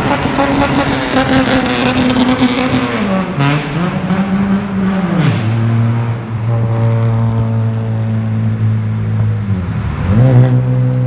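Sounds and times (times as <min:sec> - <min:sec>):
car engine revving in tunnel: 0:00.0 - 0:11.0
exhaust rasp: 0:00.0 - 0:11.0.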